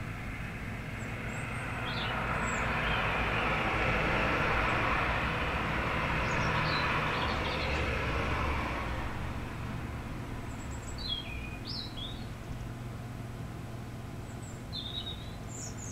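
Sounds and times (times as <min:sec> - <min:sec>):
low steady hum: 0:00.0 - 0:06.0, 0:07.8 - 0:15.9
distant vehicle passing: 0:00.0 - 0:13.1.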